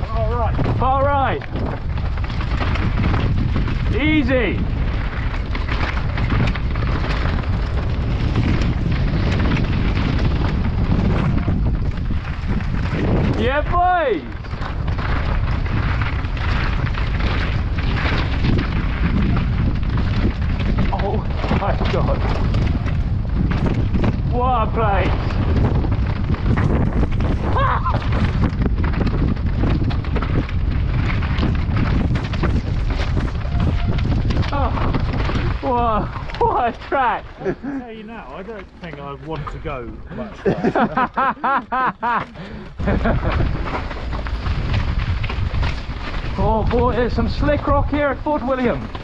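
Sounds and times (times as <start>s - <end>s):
bike clattering: 0.0s - 49.0s
tyres crunching over stones: 0.0s - 49.0s
wind rumble on microphone: 0.0s - 49.0s.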